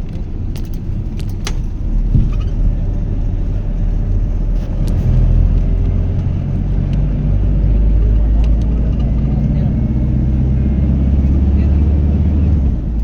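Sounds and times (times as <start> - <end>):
motor vehicle rumbling: 0.0 - 13.0.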